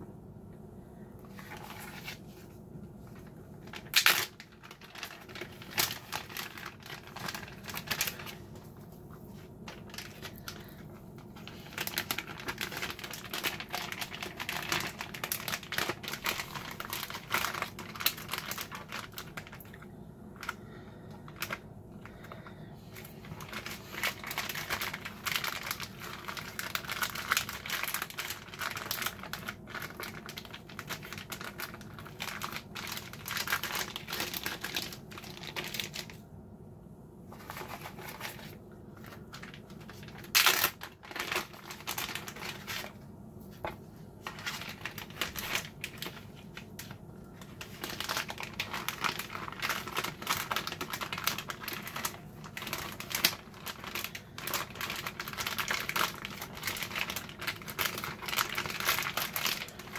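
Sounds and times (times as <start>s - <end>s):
plastic bags crinkling: 1.2s - 36.2s, 37.3s - 59.9s.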